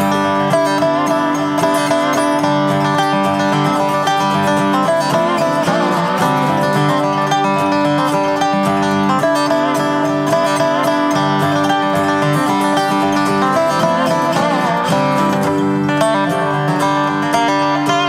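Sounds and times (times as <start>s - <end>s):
acoustic guitar plucked notes: 0.0s - 18.0s
dobro sliding lead: 0.0s - 18.0s.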